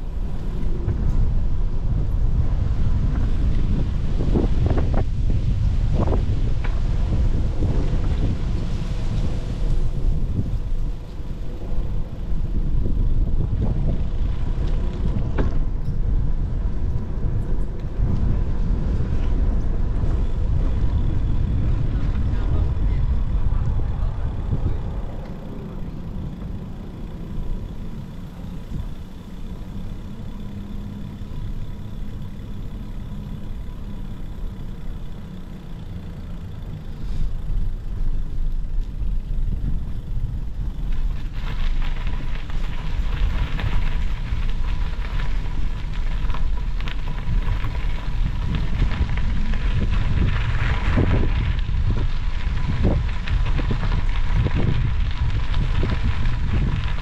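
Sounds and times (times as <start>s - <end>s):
wind buffeting microphone: 0.0s - 35.2s, 36.6s - 57.0s.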